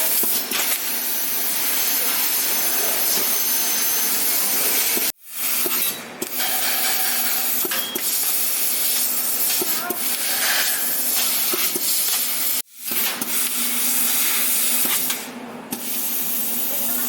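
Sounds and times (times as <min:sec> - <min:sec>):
laser cutter gas jet hissing: 0:00.0 - 0:17.0.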